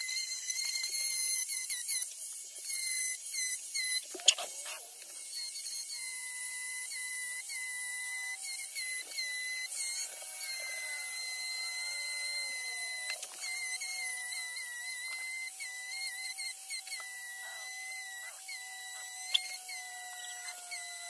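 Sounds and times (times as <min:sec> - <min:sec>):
rotary tool whining cutting wood: 0:00.0 - 0:21.0.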